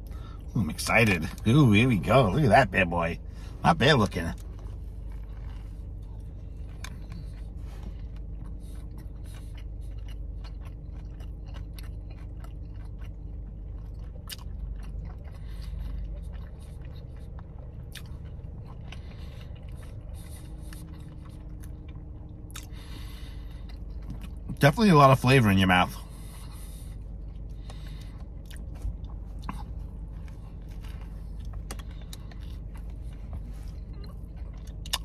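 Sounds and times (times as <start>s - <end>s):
man chewing crunchy food: 0.0s - 35.0s.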